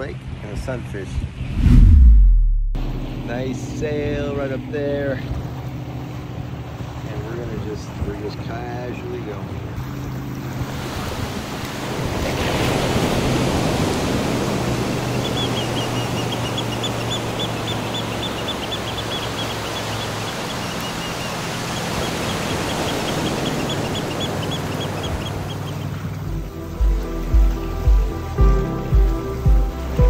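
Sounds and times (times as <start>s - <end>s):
water rushing along a hull: 2.8s - 30.0s.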